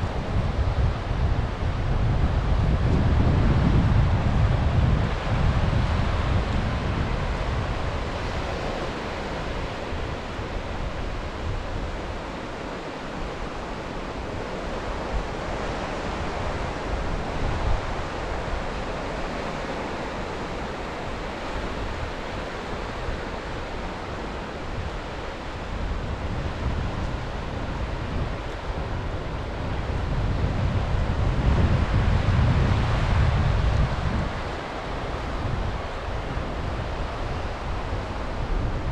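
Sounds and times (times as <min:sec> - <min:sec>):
sea waves washing on shore: 0:00.0 - 0:38.9
wind buffeting microphone: 0:00.0 - 0:38.9.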